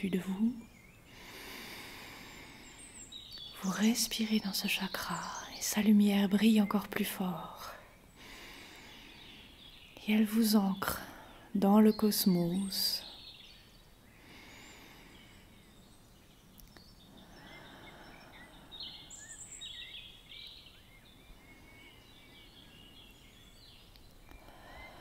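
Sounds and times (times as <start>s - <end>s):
bird chirps: 0.0s - 25.0s.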